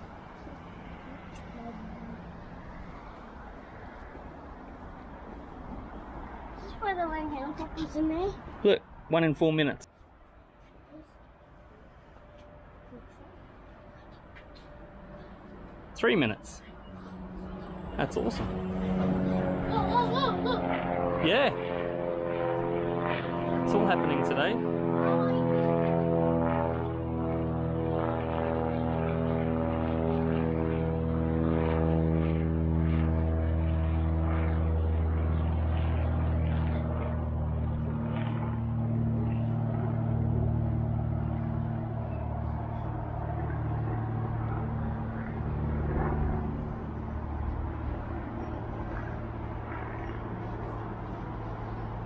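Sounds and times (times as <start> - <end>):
aircraft engine drone: 0.0 - 52.0.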